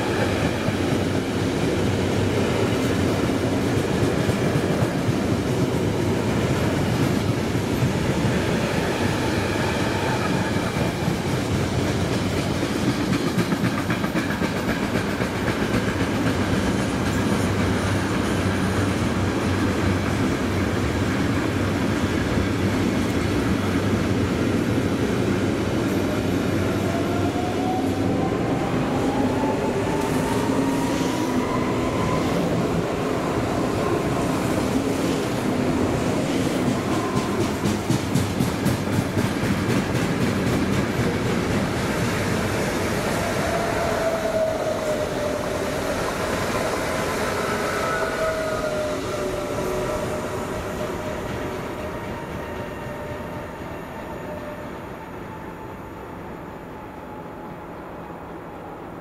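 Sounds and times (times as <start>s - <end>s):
train wheels rumbling and clattering: 0.0s - 55.1s.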